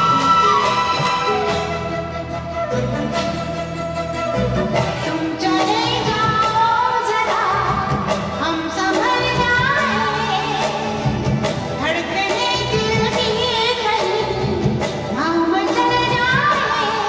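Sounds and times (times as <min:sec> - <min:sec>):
live band playing film song: 0:00.0 - 0:17.0.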